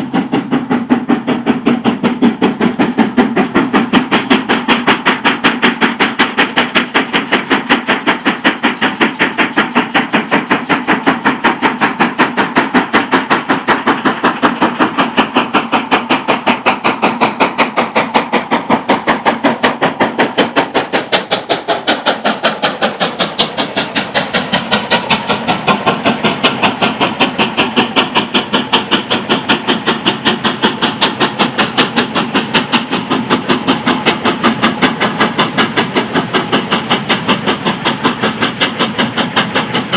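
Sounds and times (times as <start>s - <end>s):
steam locomotive exhaust beating: 0.0s - 39.9s.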